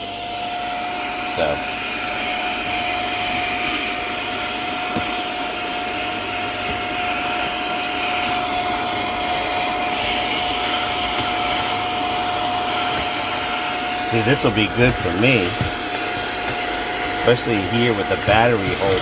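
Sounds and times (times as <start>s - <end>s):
mini vacuum motor whine: 0.0s - 19.0s.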